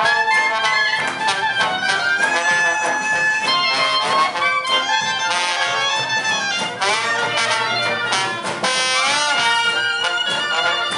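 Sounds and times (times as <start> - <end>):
jazz band playing: 0.0 - 10.9
trombone: 0.0 - 10.9
trumpet: 0.0 - 10.9.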